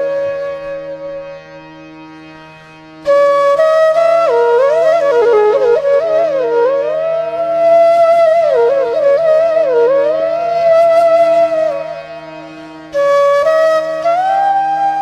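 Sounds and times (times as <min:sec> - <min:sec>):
flute music: 0:00.0 - 0:15.0.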